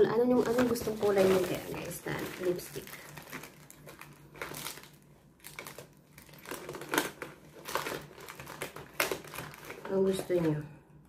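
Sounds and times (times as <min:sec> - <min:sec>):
rustling of makeup items: 0:00.0 - 0:10.7.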